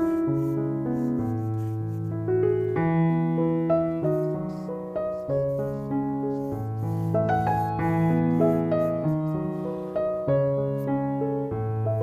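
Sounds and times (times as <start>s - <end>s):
gentle slow piano music: 0.0s - 12.0s.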